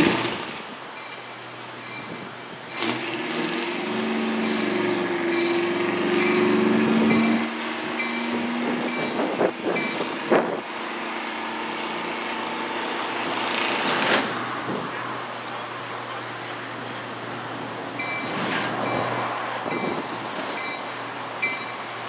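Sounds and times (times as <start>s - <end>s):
crossing warning bell dinging: 0.0s - 22.0s.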